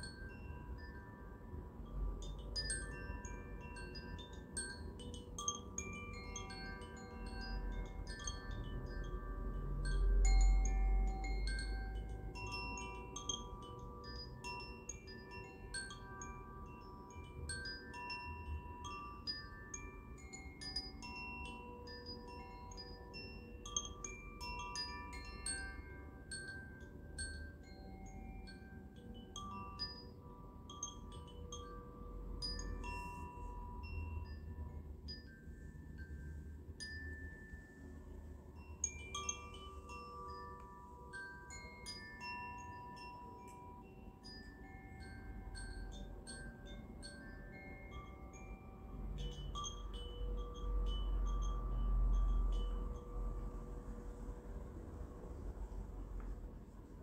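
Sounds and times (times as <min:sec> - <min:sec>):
wind chimes ringing: 0:00.0 - 0:57.0.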